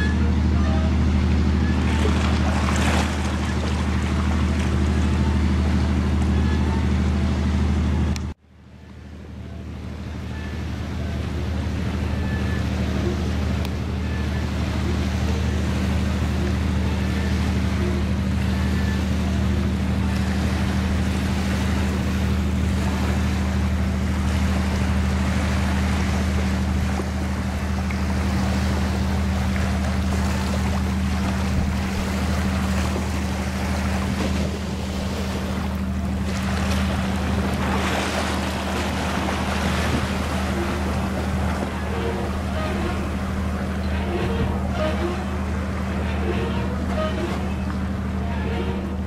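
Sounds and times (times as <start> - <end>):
boat diesel engine droning: 0.0 - 49.0
wind and water noise: 0.0 - 49.0.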